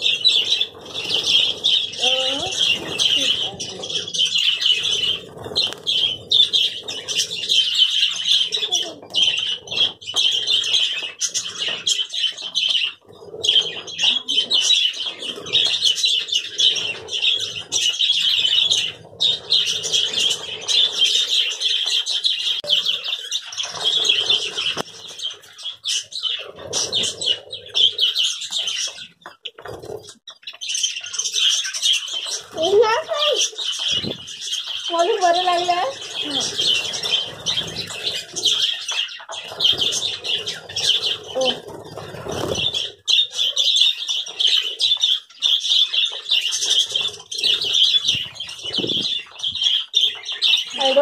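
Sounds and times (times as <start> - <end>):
wings flapping: 0.0 - 30.2, 32.3 - 43.5, 46.1 - 51.0
budgerigars chattering: 0.0 - 51.0.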